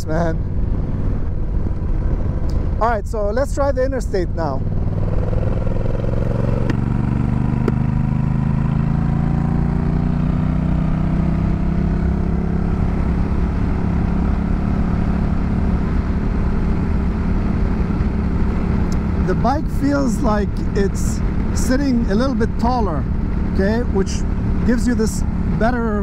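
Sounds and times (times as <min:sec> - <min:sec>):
motorcycle engine accelerating: 0:03.8 - 0:26.0.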